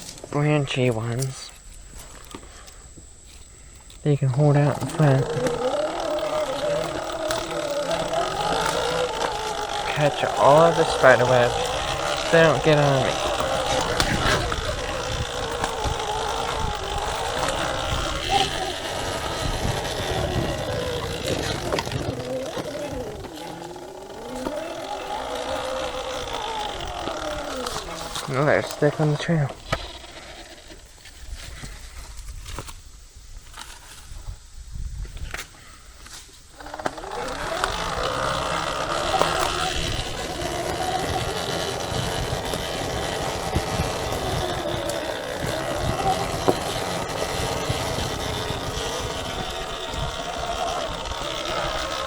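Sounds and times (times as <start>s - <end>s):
electric motor whine: 0.0s - 32.8s, 36.0s - 52.0s
tyre and trail noise: 0.0s - 52.0s.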